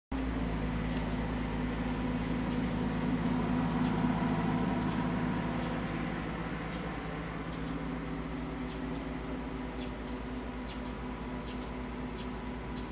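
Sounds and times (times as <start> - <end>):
low mechanical hum: 0.1 - 12.9.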